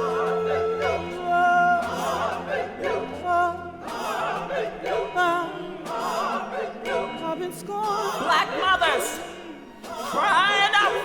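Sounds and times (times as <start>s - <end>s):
choir and orchestra: 0.0s - 11.0s
operatic voices singing: 0.0s - 11.0s.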